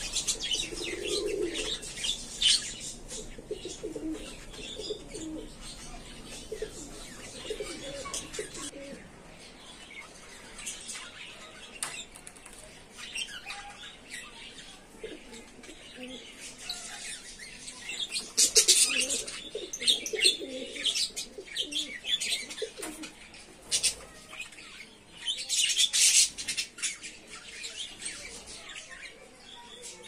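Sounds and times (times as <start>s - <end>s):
birds chattering and chirping: 0.0s - 30.0s.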